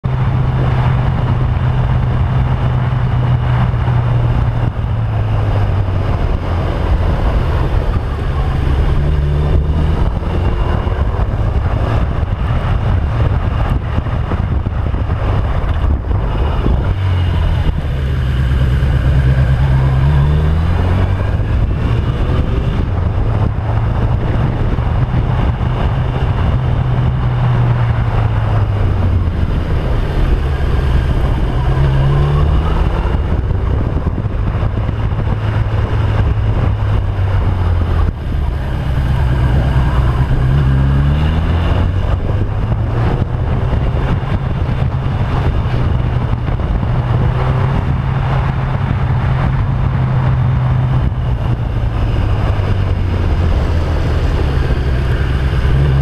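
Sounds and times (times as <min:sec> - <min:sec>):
motorcycle engine revving: 0:00.0 - 0:56.0
wind rushing over microphone: 0:00.0 - 0:56.0.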